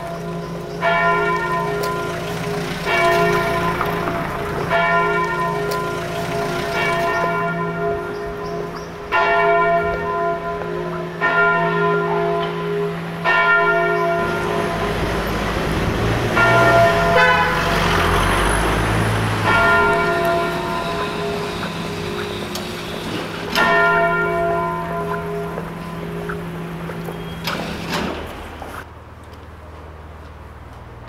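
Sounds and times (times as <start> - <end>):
bell tolling: 0.0 - 27.8.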